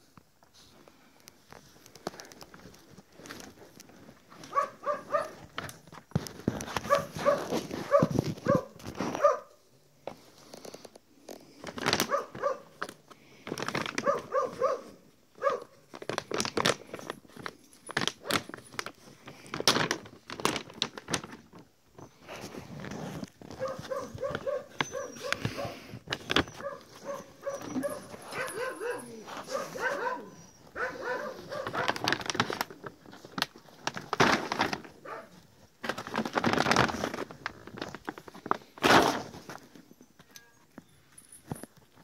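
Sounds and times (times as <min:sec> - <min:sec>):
plastic sack crinkling and tearing: 0:01.5 - 0:09.4, 0:10.3 - 0:39.9.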